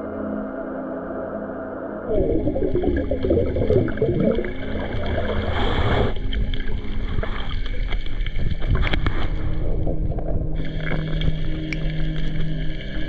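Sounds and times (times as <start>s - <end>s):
soft background music: 0.0s - 13.0s
gurgling bubbles: 2.1s - 13.0s
underwater rushing rumble: 2.1s - 13.0s.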